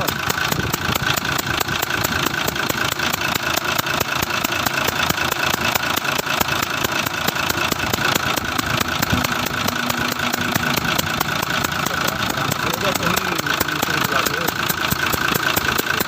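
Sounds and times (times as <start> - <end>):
engine idling: 0.0 - 16.0
rapid even ticking: 0.0 - 16.0.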